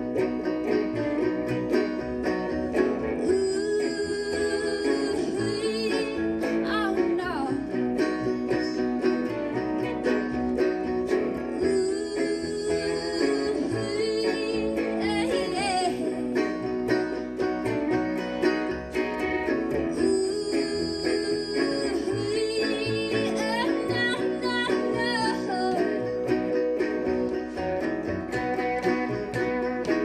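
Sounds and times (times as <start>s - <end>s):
electric guitars playing: 0.0s - 30.0s
plucked double bass: 0.0s - 30.0s.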